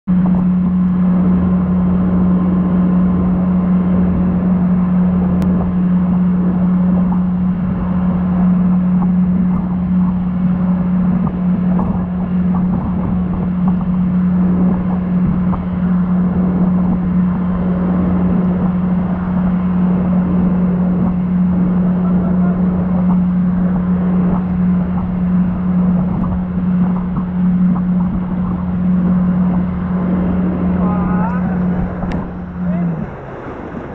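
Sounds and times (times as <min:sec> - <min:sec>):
boat engine drone: 0:00.0 - 0:33.9
wake rushing and spray: 0:00.1 - 0:33.9.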